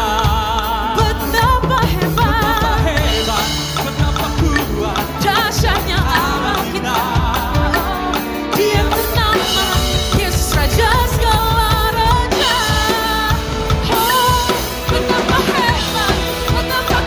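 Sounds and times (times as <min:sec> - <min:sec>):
drum kit playing: 0:00.0 - 0:17.0
person singing: 0:00.0 - 0:17.0
pop-style worship song: 0:00.0 - 0:17.0.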